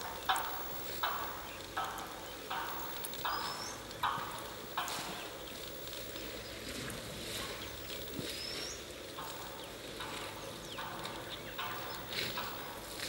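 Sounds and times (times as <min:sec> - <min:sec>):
outdoor ambience: 0:00.0 - 0:13.0.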